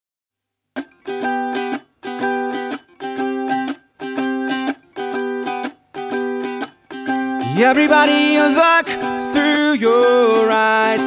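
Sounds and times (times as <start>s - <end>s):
strummed guitar chords: 0.8s - 11.0s.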